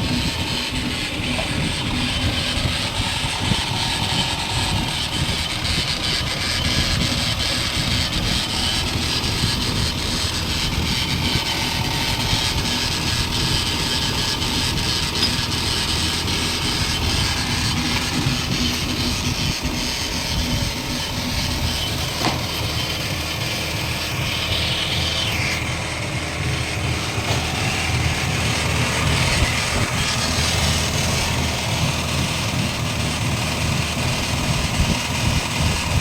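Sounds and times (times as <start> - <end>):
car road and engine noise: 0.0 - 36.0
wheel bearing humming: 0.0 - 36.0.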